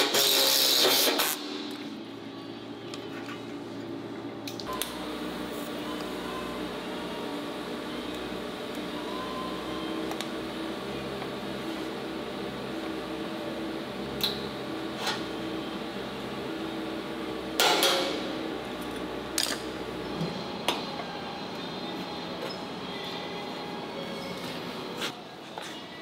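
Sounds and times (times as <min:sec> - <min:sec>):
steady shop hum: 0:00.0 - 0:26.0.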